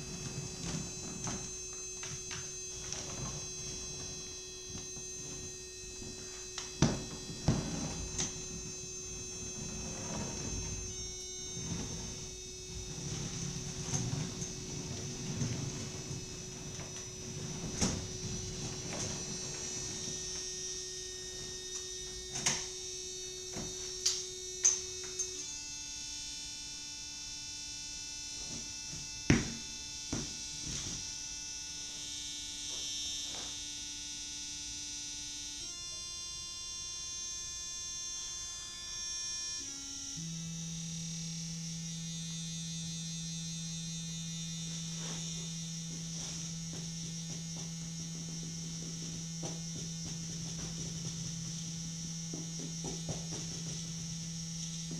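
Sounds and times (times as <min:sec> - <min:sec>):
buzzing electronic drone: 0:00.0 - 0:54.9.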